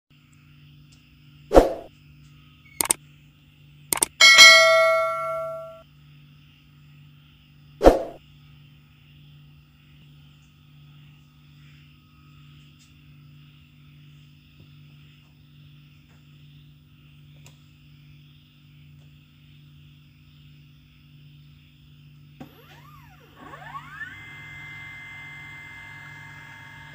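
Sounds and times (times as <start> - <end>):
low mains hum with hiss: 0.1 - 3.9, 5.5 - 26.9.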